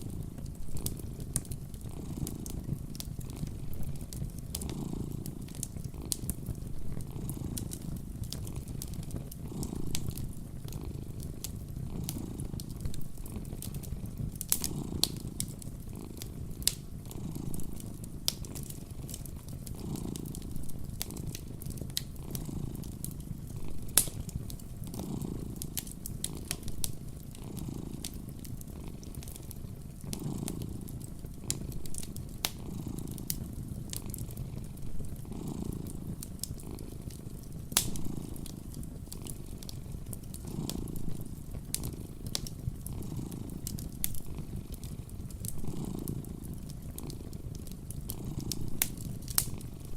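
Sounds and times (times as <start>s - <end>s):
cat purring: 0.0s - 49.9s
wood fire crackling: 0.0s - 49.9s.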